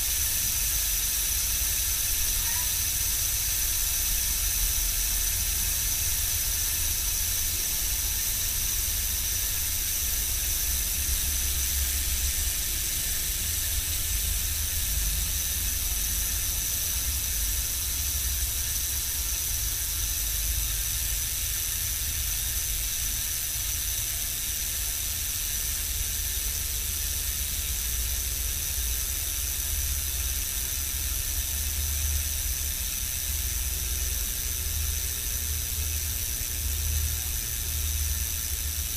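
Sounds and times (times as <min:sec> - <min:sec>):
bicycle hub freewheel buzz: 0:00.0 - 0:38.9.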